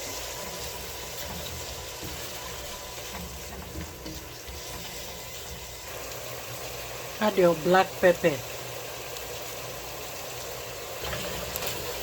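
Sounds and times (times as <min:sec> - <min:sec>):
oil frying in a pan: 0:00.0 - 0:12.0.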